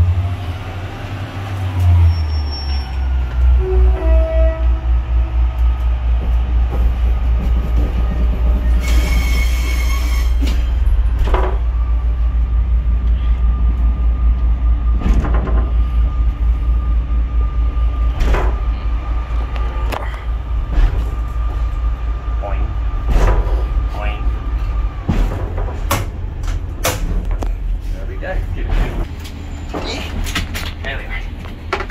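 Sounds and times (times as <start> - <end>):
diesel railbus engine throbbing: 0.0 - 31.9.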